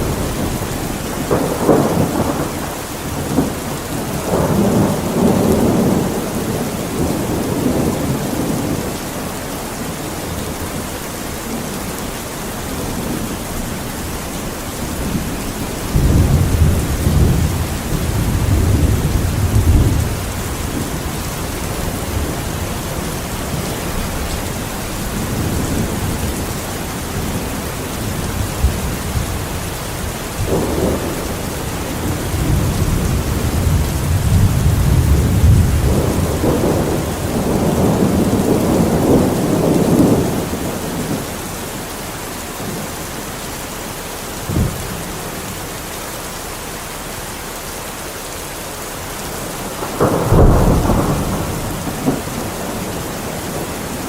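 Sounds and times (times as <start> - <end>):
rolling thunder: 0.0 - 9.4, 10.3 - 41.6, 44.4 - 45.4, 49.2 - 54.0
steady rain: 0.0 - 54.0.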